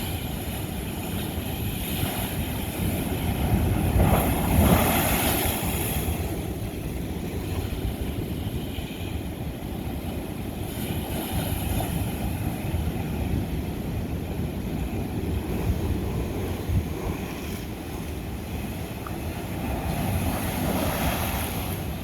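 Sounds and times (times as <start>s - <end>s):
waves rumbling on rock: 0.0s - 22.0s.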